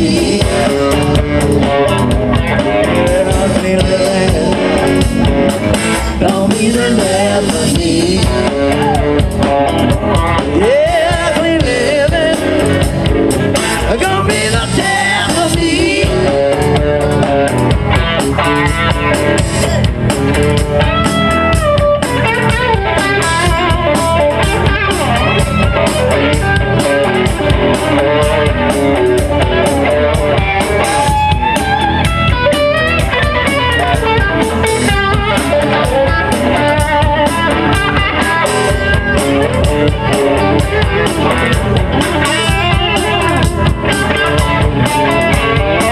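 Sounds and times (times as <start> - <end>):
bass guitar: 0.0 - 45.9
drum kit: 0.0 - 45.9
electric guitars playing melody: 0.0 - 45.9.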